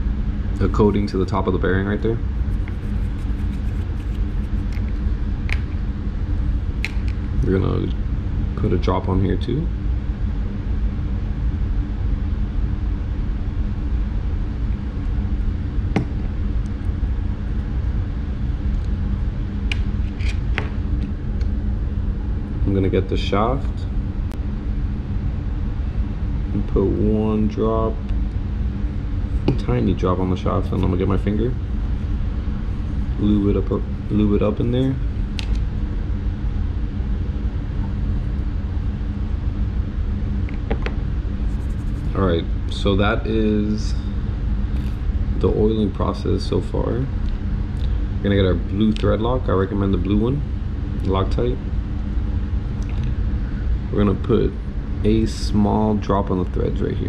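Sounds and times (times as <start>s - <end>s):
constant hum: 0.0s - 57.0s.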